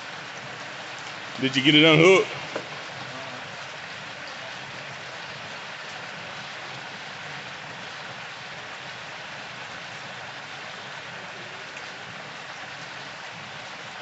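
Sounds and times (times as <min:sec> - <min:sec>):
oil bubbling and sizzling: 0:00.0 - 0:01.5, 0:02.3 - 0:14.0.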